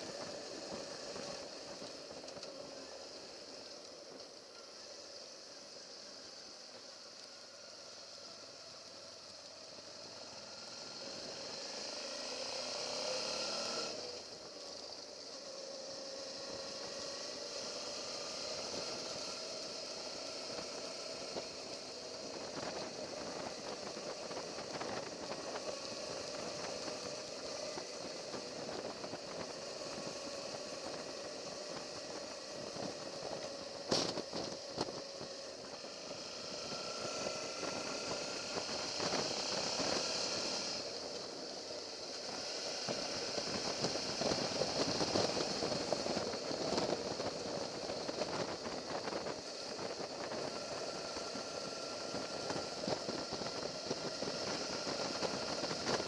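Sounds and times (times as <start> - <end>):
motorcycle engine hum: 0.0 - 56.0.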